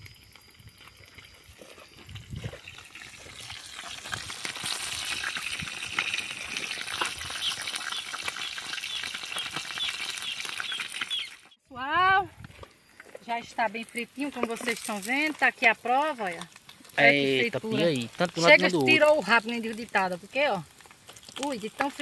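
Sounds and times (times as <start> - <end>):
fish sizzling in oil: 0.0 - 11.6, 12.9 - 22.0.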